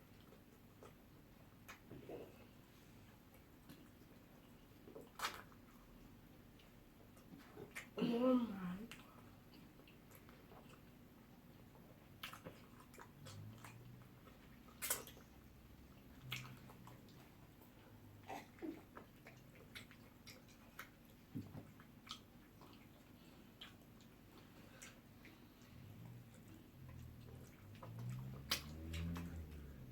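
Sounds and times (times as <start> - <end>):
chewing: 0.1 - 8.0, 8.9 - 29.9.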